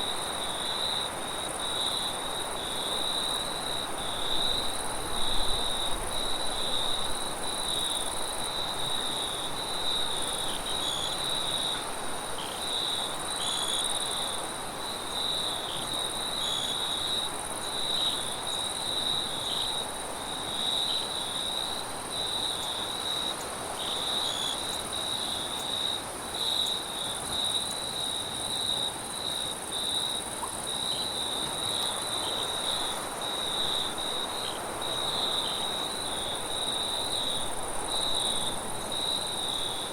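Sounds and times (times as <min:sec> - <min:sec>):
crickets trilling: 0:00.0 - 0:39.9
high insect sound: 0:00.3 - 0:39.9.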